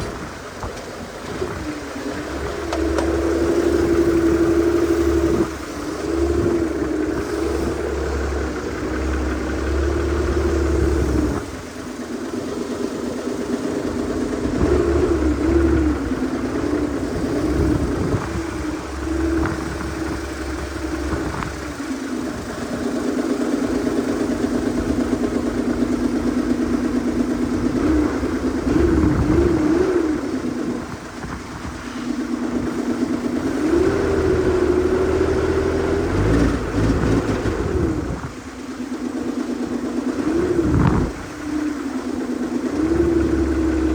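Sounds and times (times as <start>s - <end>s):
engine revving up and down: 1.2s - 43.9s.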